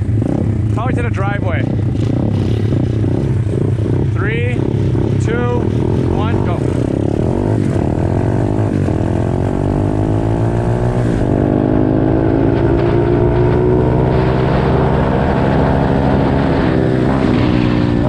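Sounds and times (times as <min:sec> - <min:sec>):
motorbike engine accelerating: 0:00.0 - 0:18.0.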